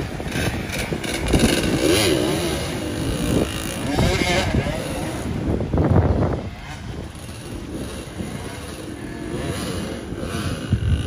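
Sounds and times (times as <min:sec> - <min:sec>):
dirt bike engines running: 0:00.0 - 0:11.0
wind on microphone: 0:00.0 - 0:11.0.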